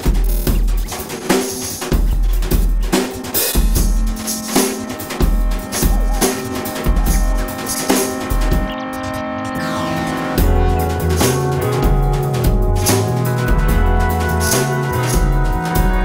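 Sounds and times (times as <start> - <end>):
drum beat with cymbal crashes: 0.0 - 9.1, 10.1 - 16.0
held instrument tones: 2.9 - 16.0.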